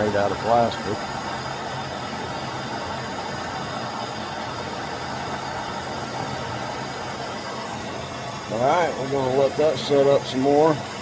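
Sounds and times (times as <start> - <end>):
fan whirring: 0.0 - 11.0
low motor hum: 0.0 - 11.0.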